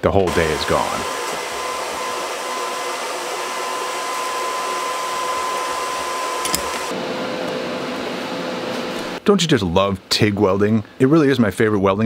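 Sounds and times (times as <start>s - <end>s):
fan blowing hiss: 0.0s - 11.2s.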